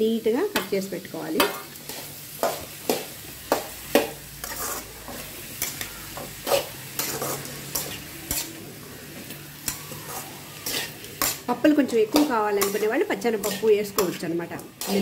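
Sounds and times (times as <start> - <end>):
vegetables sizzling in oil: 0.0 - 15.0
metal spatula scraping a pan: 1.4 - 15.0.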